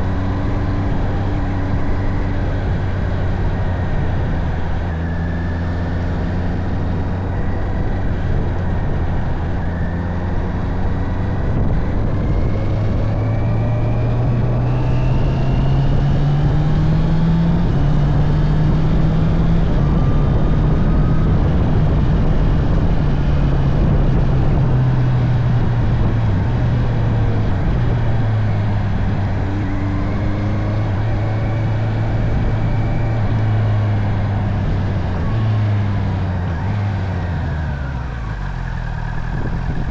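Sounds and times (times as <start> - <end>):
motorcycle engine accelerating: 0.0 - 39.9
rushing wind noise: 0.0 - 39.9.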